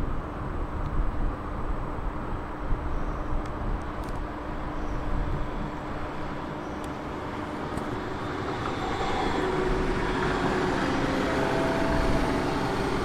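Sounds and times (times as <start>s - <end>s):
train rumble and hiss: 0.0s - 13.0s.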